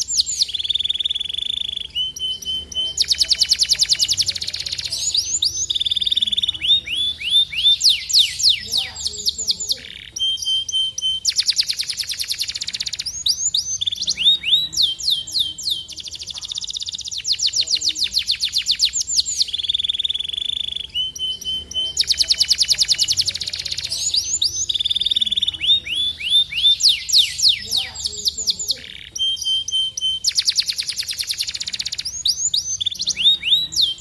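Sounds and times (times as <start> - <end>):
canary singing trills and whistles: 0.0 - 34.0.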